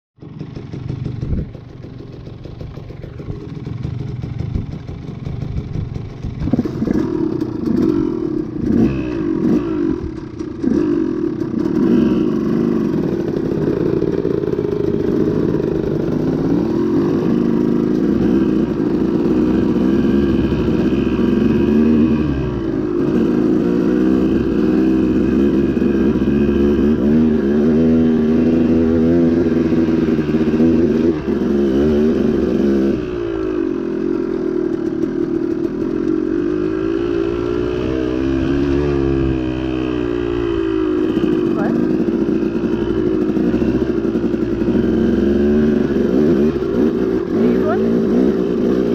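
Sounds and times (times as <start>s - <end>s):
dirt bike engine revving: 0.3s - 48.9s.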